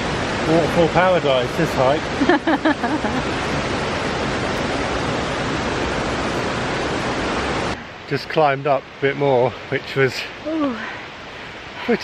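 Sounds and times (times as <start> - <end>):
small waterfalls rushing: 0.0 - 12.0.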